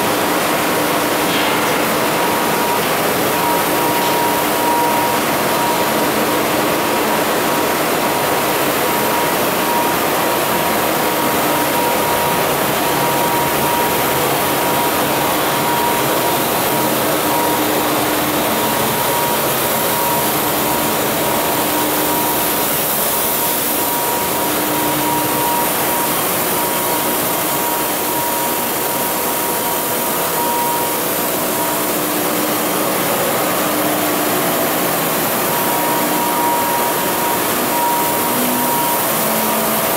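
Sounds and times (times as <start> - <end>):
printing press hiss: 0.0 - 39.9
steady high hum: 0.0 - 39.9.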